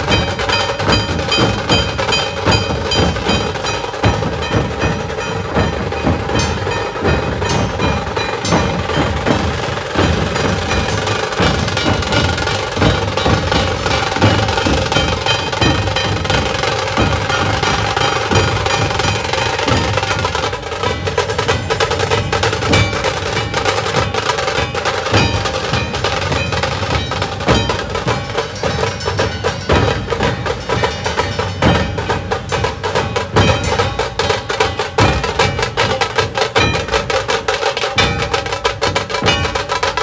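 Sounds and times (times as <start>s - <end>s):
fast drumming: 0.0s - 40.0s.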